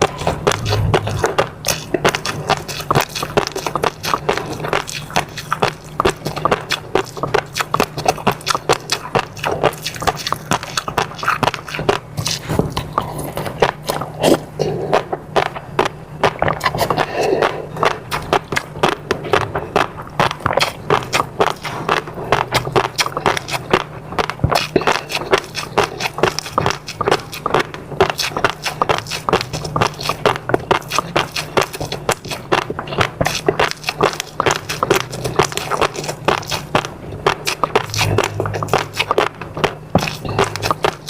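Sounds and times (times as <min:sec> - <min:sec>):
steady low hum: 0:00.0 - 0:41.0
wet chewing and mouth clicks: 0:00.0 - 0:41.0.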